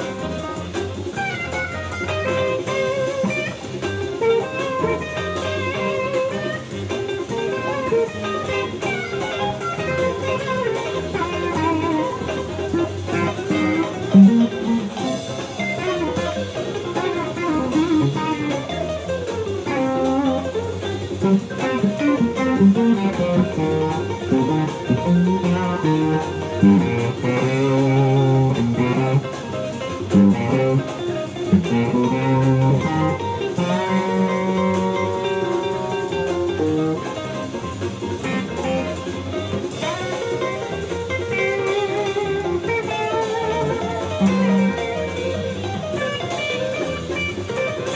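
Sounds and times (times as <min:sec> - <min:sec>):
electric guitar playing: 0:00.0 - 0:47.9.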